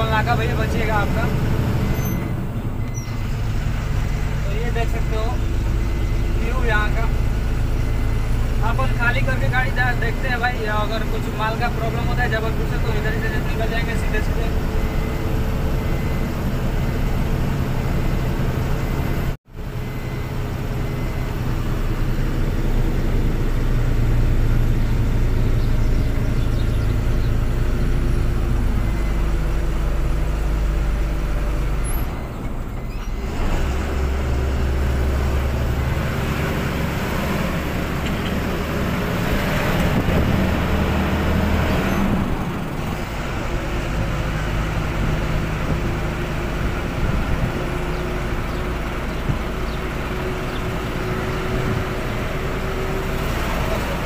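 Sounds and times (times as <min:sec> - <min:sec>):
road noise: 0:00.0 - 0:54.0
truck diesel engine running: 0:00.0 - 0:54.0.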